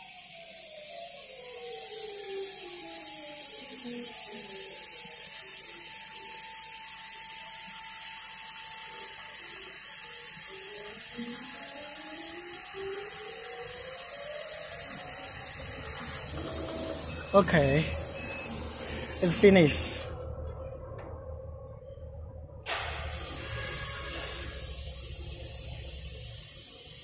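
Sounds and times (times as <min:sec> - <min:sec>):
air-assist hiss: 0:00.0 - 0:20.5, 0:22.7 - 0:27.0
stepper motors whining: 0:00.0 - 0:27.0.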